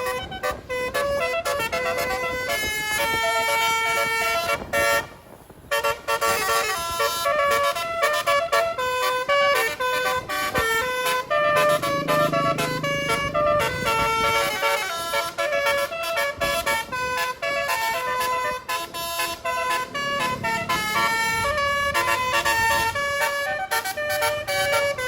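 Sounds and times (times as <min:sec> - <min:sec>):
bus engine rumbling: 0:00.0 - 0:25.0
multi-trumpet air horn melody: 0:00.0 - 0:25.0.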